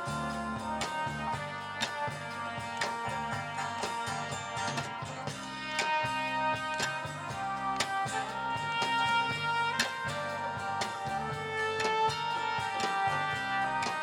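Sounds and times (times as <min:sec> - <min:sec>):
band playing instrumental music: 0:00.0 - 0:14.0.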